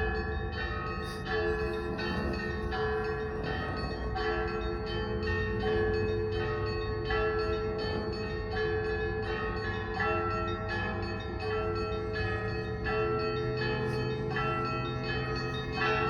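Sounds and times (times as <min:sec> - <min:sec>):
large bell humming: 0:00.0 - 0:16.0
small church bells pealing: 0:00.0 - 0:16.0.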